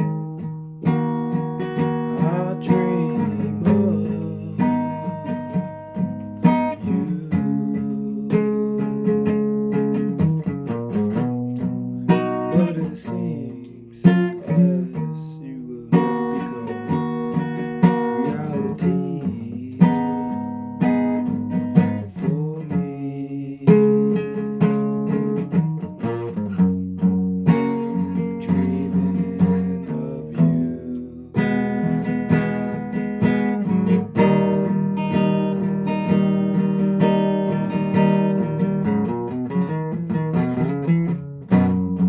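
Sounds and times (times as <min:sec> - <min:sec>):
guitar strummed and picked: 0:00.0 - 0:42.0.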